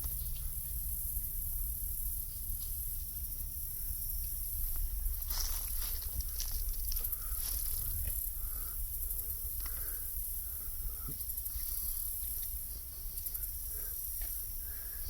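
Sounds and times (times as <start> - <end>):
wind rumble on microphone: 0.0 - 13.4
insects trilling: 0.0 - 15.0.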